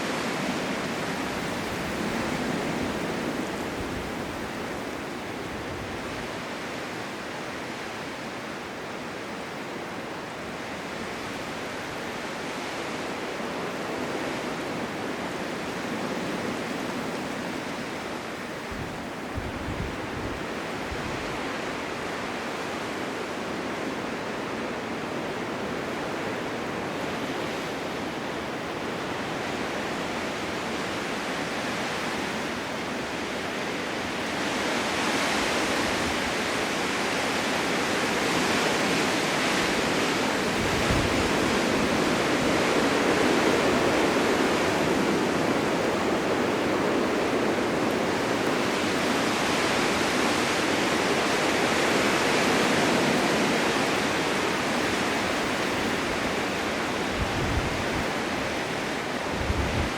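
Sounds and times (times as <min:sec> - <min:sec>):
blizzard wind blowing: 0:00.0 - 0:59.9.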